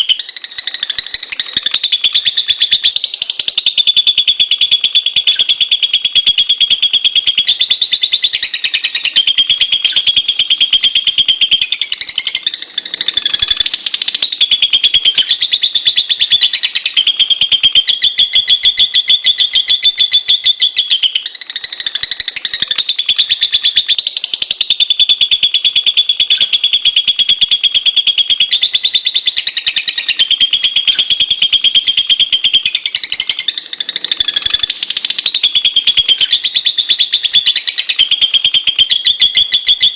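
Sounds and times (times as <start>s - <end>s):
lovebird shrill chattering: 0.0s - 26.8s, 28.2s - 39.9s.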